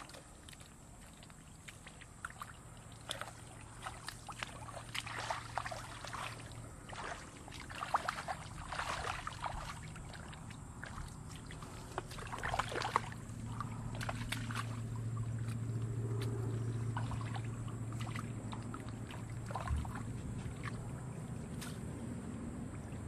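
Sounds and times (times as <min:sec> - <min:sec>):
hands splashing in muddy water: 0:00.0 - 0:22.1
steady low hum: 0:00.0 - 0:23.0.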